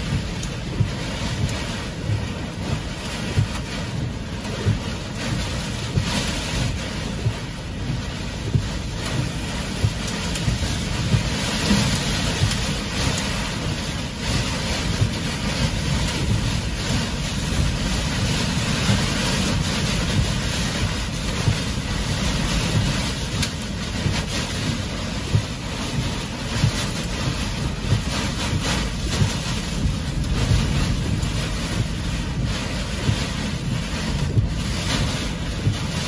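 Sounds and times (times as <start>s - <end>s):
heavy rain on a car: 0.0s - 36.0s
wind buffeting rumbles: 0.0s - 36.0s.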